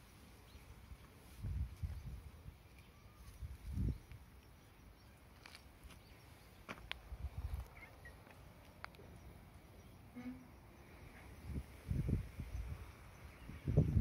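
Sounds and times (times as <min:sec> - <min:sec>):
faint bird chirps: 0:01.8 - 0:14.0.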